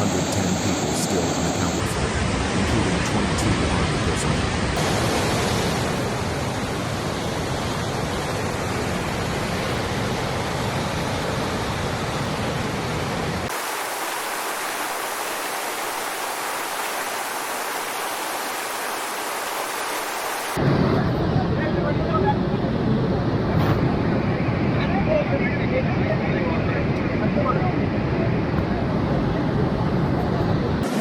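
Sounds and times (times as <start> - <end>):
rushing floodwater: 0.0 - 22.0, 24.6 - 31.0.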